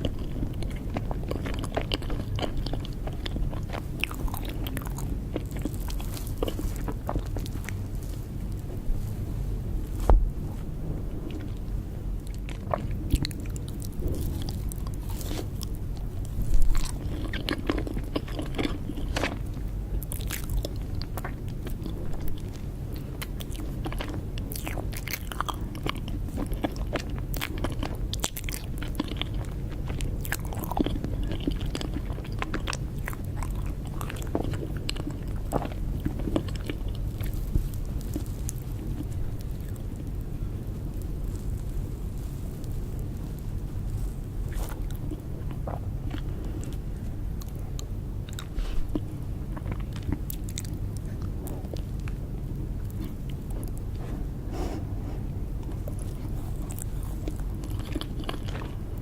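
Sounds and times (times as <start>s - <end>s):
person chewing cake: 0.0s - 59.0s.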